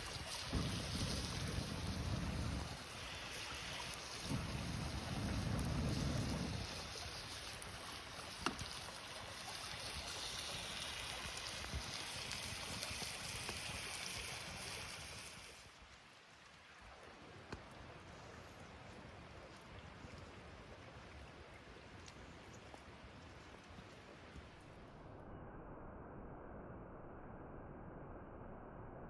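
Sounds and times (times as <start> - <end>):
river flowing: 0.0 - 24.7.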